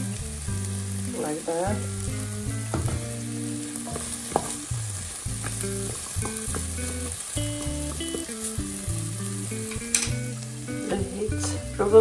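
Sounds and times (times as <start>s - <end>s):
potatoes sizzling in a pan: 0.0s - 12.0s.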